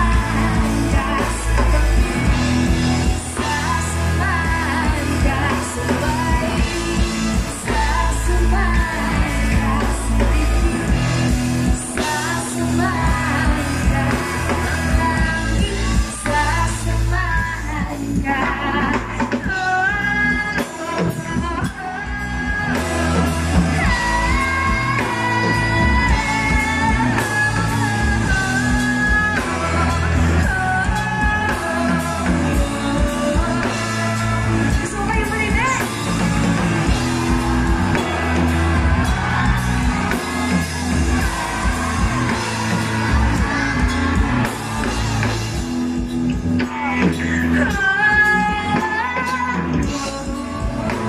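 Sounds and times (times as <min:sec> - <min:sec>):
woman singing: 0:00.0 - 0:45.4, 0:46.6 - 0:51.0
bass guitar: 0:00.0 - 0:51.0
steady drum beat: 0:00.0 - 0:51.0.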